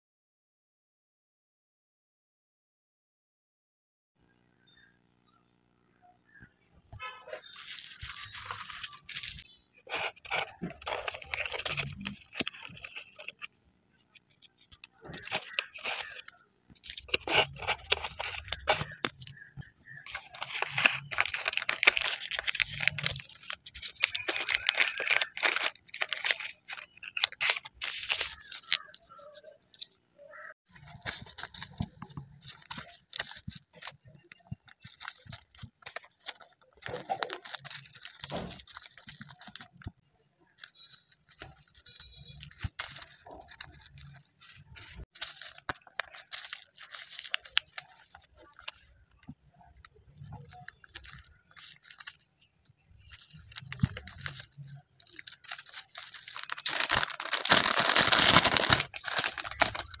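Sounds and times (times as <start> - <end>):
plastic crinkling and rustling: 7.4 - 29.9, 30.7 - 60.0.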